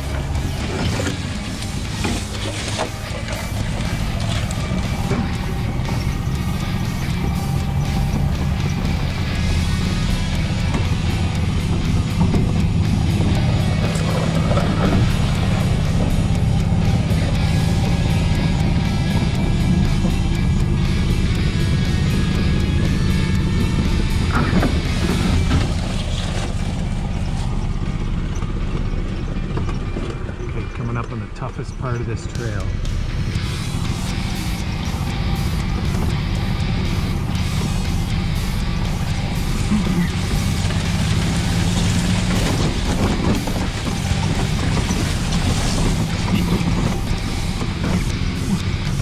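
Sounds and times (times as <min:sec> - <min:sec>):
golf cart rumbling: 0:00.0 - 0:49.0.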